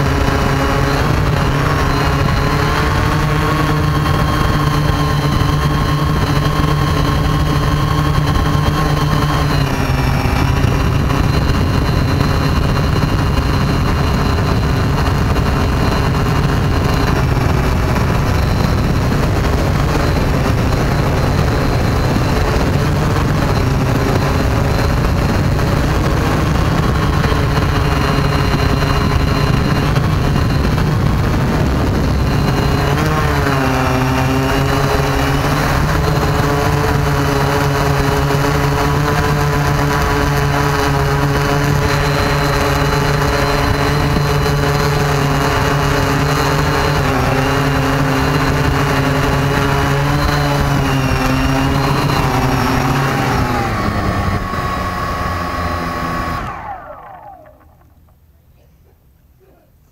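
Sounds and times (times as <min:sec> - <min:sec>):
drone propellers buzzing: 0:00.0 - 0:58.3.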